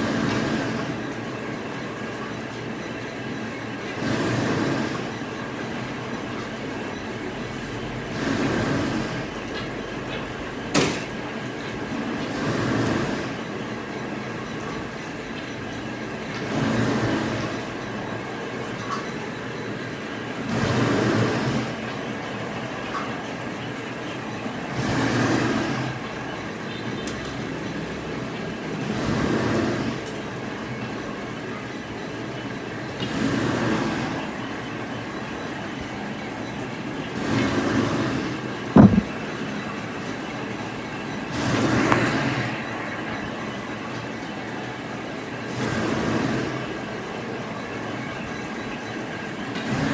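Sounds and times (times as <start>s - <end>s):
machinery running in cycles: 0.0s - 49.9s.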